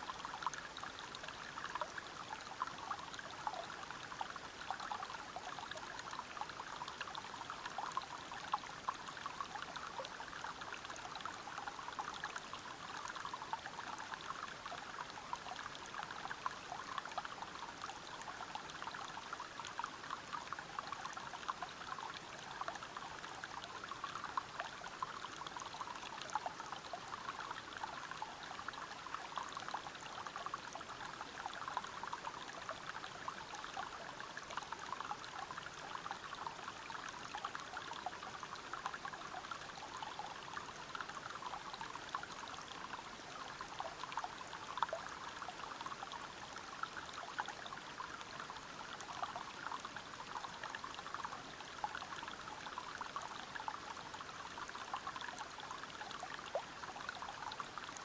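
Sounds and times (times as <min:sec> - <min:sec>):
stream and waterfall over rocks: 0:00.0 - 0:58.0.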